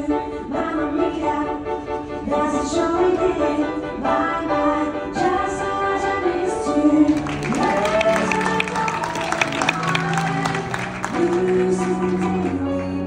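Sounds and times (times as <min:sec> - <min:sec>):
show music with singing voice: 0:00.0 - 0:13.0.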